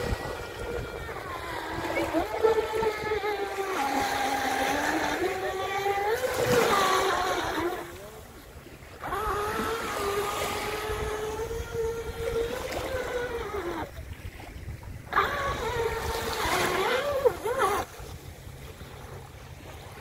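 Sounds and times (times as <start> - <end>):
electric motor whining: 0.0 - 14.2, 15.1 - 17.9
small waves washing at shore: 0.0 - 20.0.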